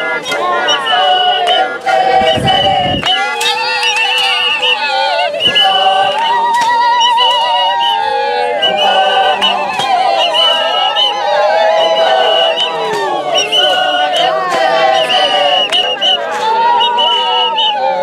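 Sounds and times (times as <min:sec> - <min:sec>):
group singing a cappella: 0:00.0 - 0:18.0
high wavering calls: 0:00.0 - 0:18.0.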